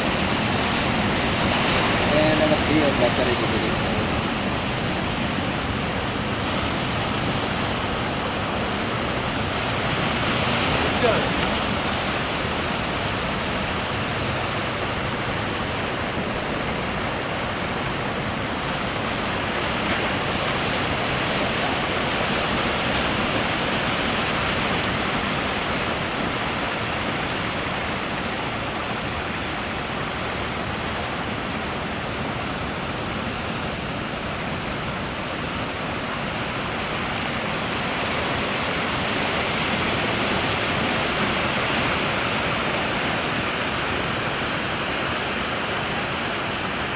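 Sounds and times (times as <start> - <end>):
surf rushing: 0.0 - 46.9.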